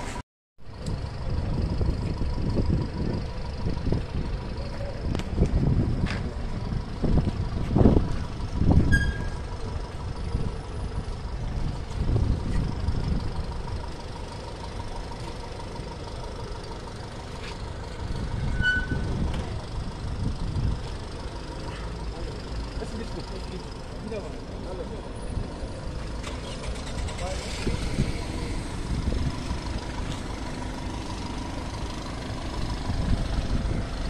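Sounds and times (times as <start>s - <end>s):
van engine rumbling: 0.0s - 34.0s.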